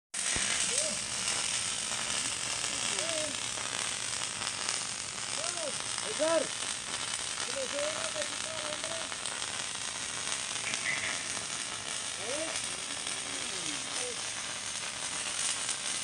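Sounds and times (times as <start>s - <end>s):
welding arc crackling sizzle: 0.1s - 16.0s.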